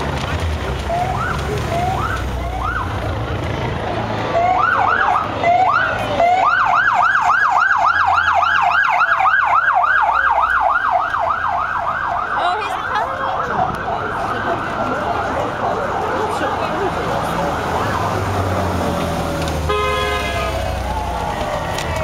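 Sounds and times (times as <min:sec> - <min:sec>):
police motorcycle siren: 0:00.7 - 0:03.2, 0:04.2 - 0:22.0.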